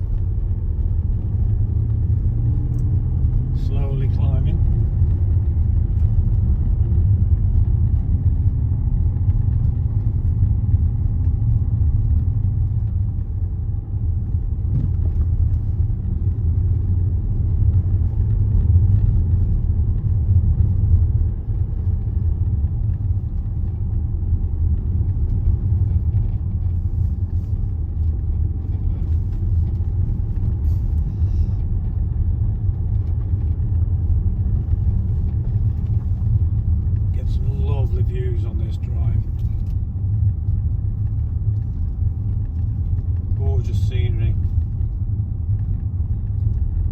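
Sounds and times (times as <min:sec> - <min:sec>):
car driving rumble from inside: 0:00.0 - 0:46.9.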